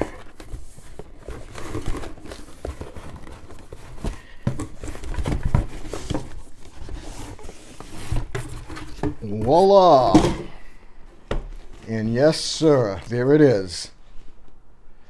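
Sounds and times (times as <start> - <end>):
cardboard rustling and crinkling: 0.0 - 12.6.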